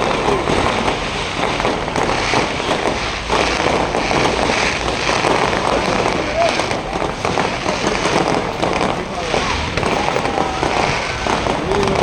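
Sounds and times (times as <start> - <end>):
fireworks bangs and crackles: 0.0 - 12.0
outdoor crowd noise: 0.0 - 12.0.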